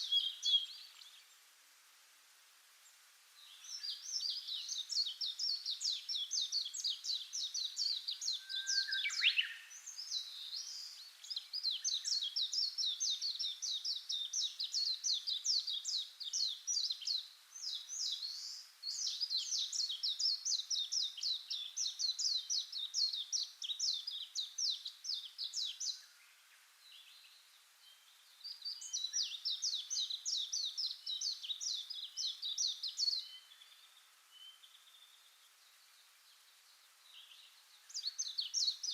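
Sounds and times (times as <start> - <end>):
songbirds trilling: 0.0 - 1.5, 3.4 - 38.9.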